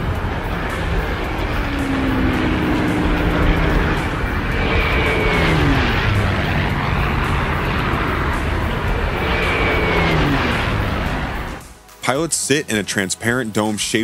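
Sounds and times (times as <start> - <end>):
propeller plane flying past: 0.0 - 11.6.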